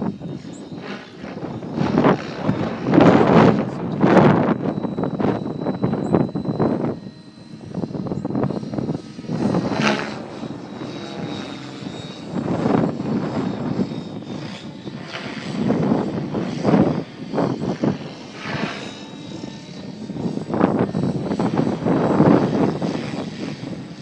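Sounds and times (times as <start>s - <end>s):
faint high whine: 0.0s - 24.0s
helicopter rotor blades whooshing: 0.0s - 24.0s.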